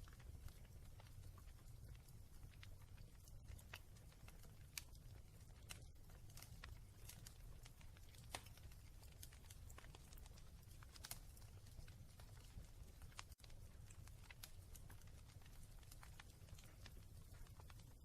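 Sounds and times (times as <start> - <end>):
fire crackling in fireplace: 0.0 - 18.0.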